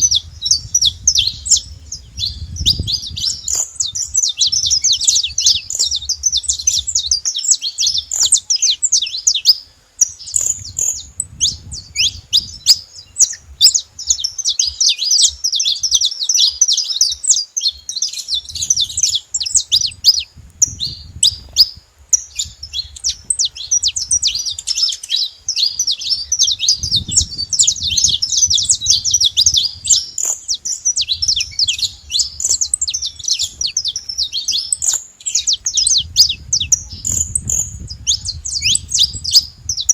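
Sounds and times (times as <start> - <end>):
finch chirps and trills: 0.0 - 39.9.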